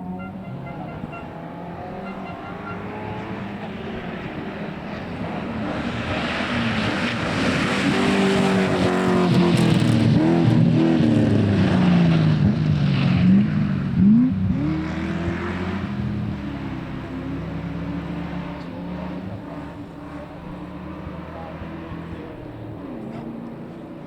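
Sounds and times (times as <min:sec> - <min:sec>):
rally car engine revving past: 0:00.0 - 0:23.7.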